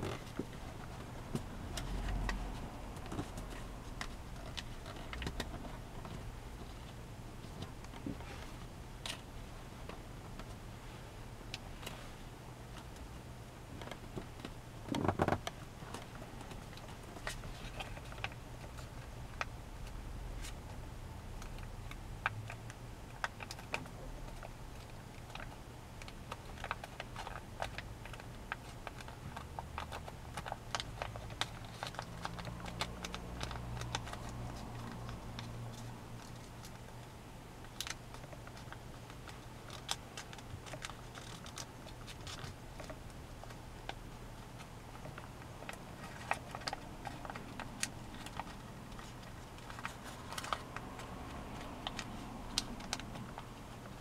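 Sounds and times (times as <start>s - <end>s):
paper crinkling and rustling: 0.0s - 10.6s, 13.8s - 20.7s, 21.4s - 54.0s.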